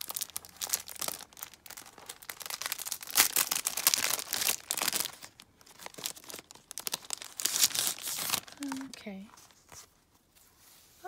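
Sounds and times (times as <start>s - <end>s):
plastic sleeve crinkling: 0.0s - 10.6s.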